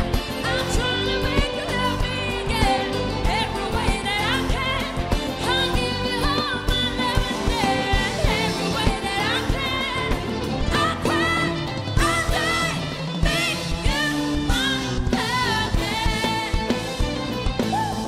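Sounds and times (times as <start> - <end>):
drum kit beat: 0.0 - 18.0
live band playing pop song: 0.0 - 18.0.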